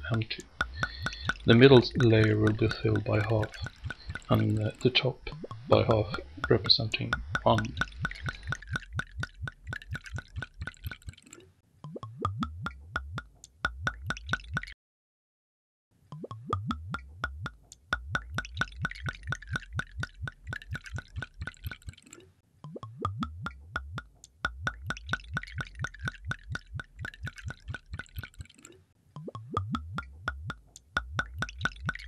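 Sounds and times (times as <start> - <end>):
water dripping plops: 0.0 - 14.8, 16.1 - 32.0.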